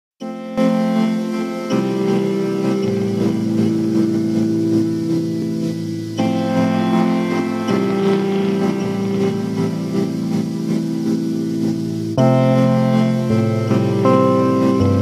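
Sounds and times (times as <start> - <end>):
instrumental music with held chords: 0.2 - 15.0.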